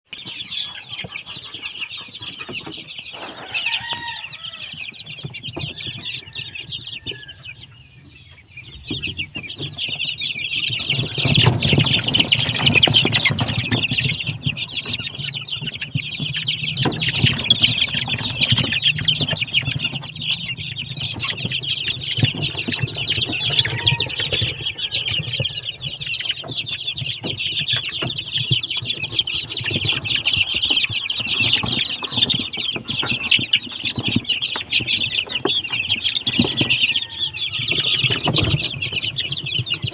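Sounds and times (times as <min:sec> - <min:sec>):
chickens clucking: 0:00.1 - 0:39.9.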